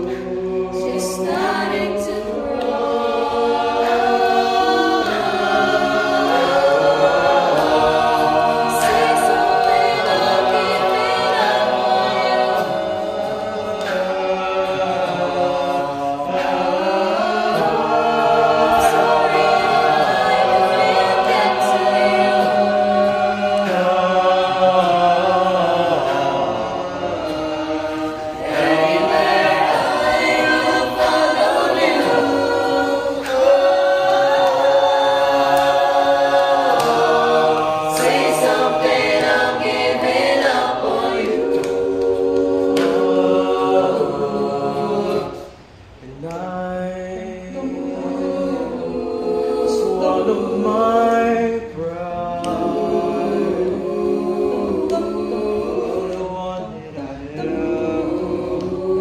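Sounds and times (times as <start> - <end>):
choir singing held chords: 0.0 - 59.0.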